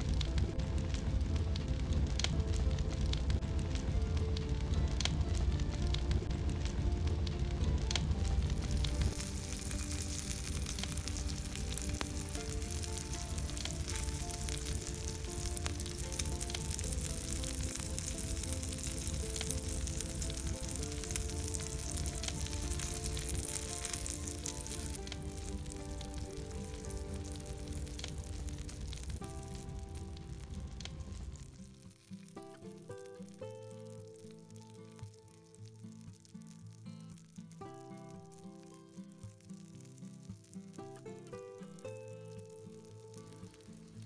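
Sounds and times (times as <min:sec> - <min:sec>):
soft background music: 0:00.0 - 0:44.0
oil sizzling in a frying pan: 0:08.0 - 0:44.0.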